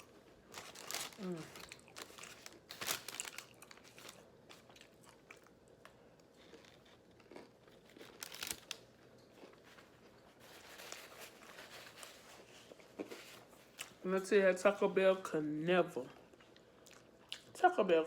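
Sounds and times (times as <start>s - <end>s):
crunching and chewing: 0.0s - 14.0s, 16.1s - 17.6s.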